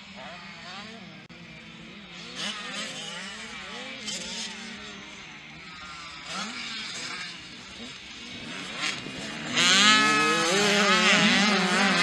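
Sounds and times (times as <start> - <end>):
motocross bikes revving past: 0.0 - 12.0.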